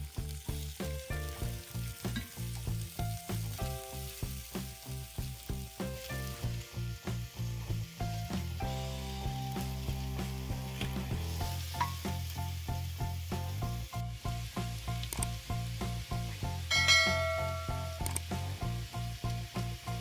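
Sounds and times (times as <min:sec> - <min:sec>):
background music with beat: 0:00.0 - 0:20.0
food sizzling in a frying pan: 0:00.0 - 0:20.0.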